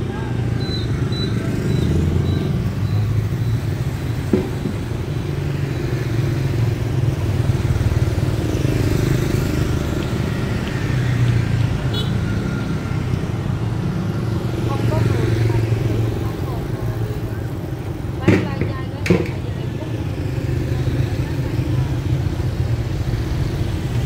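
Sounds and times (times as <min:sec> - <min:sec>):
motor scooters passing: 0:00.0 - 0:24.0.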